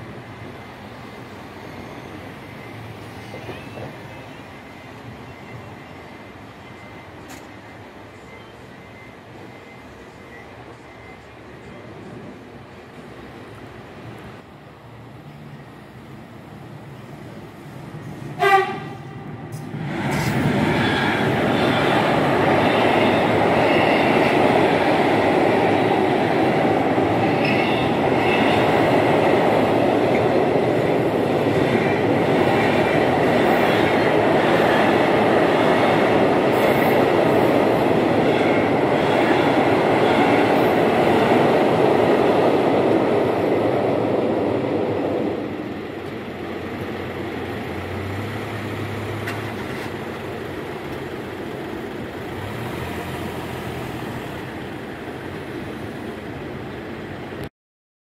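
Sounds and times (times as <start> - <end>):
train rumbling over bridge: 0.0 - 57.5.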